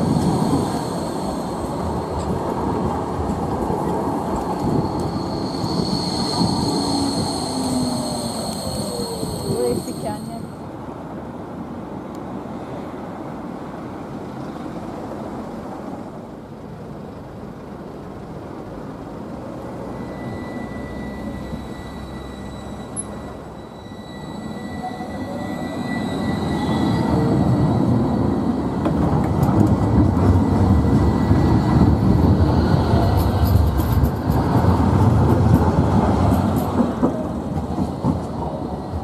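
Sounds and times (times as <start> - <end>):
low street background: 0.0 - 39.0
tram wheels rumbling: 0.0 - 39.0.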